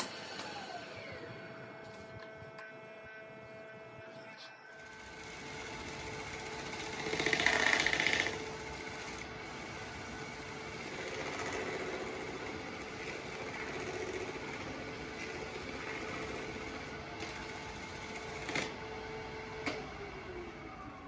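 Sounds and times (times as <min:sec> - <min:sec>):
wood lathe motor hum: 0:00.0 - 0:21.0.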